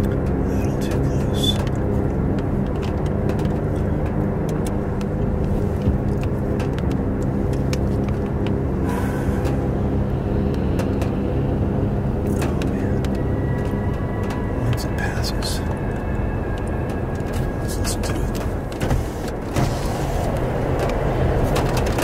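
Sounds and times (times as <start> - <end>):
engine droning: 0.0 - 22.0
rushing wind: 0.0 - 22.0.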